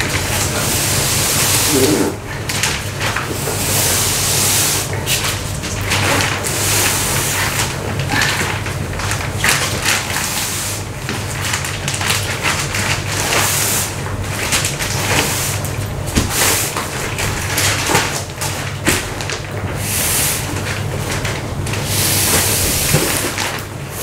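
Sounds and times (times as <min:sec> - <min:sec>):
plastic film rustling and crinkling: 0:00.0 - 0:24.0.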